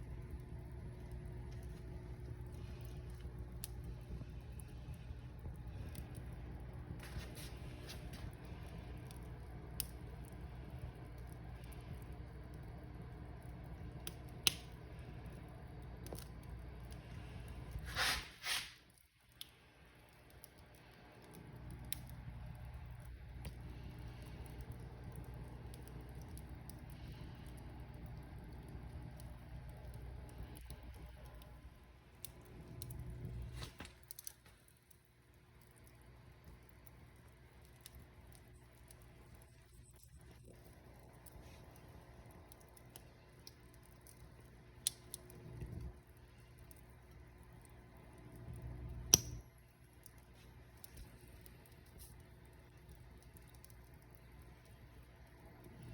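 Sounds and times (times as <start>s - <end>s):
low steady rumble: 0.0s - 18.4s, 19.0s - 55.9s
wood fire crackling: 0.0s - 55.9s.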